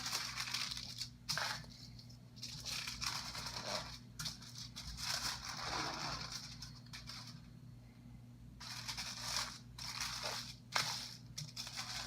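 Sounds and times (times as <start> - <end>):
aluminium foil crinkling: 0.0 - 7.5, 8.6 - 12.0.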